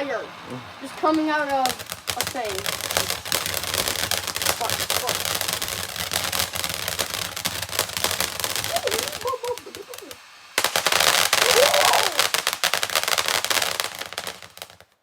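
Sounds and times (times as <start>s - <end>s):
wavering rising tones: 0.0s - 12.6s
firework fountain crackling: 0.0s - 15.0s.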